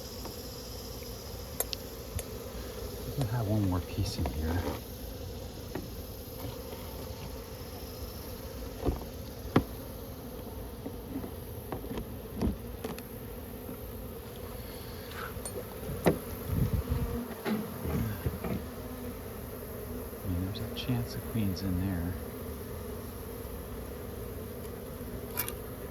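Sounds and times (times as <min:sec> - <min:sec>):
honeybees buzzing: 0:00.0 - 0:25.9.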